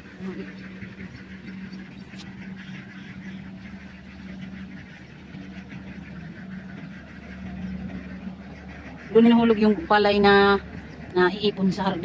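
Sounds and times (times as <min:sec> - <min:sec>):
combine harvester engine drone: 0:00.0 - 0:12.0
ducks quacking: 0:00.0 - 0:12.0.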